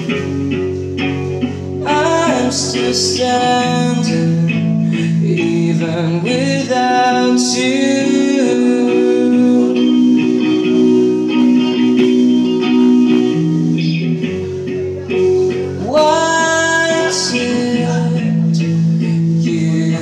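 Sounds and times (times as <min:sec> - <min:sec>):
electric guitar music: 0:00.0 - 0:20.0.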